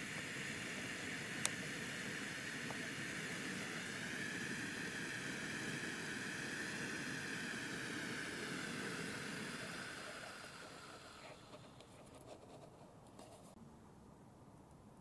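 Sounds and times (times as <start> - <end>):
flare burning with hissing rush: 0.0 - 12.8.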